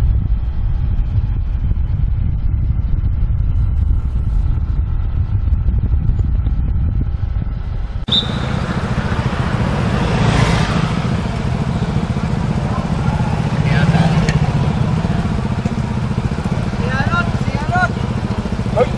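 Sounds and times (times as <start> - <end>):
rushing noise of travel: 0.0 - 18.9
wind buffeting microphone: 0.0 - 18.9.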